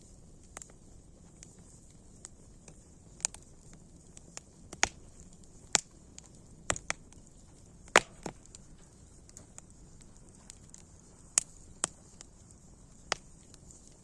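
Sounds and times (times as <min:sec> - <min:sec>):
campfire wood crackling and popping: 0:00.0 - 0:14.0
faint hiss: 0:00.0 - 0:14.0.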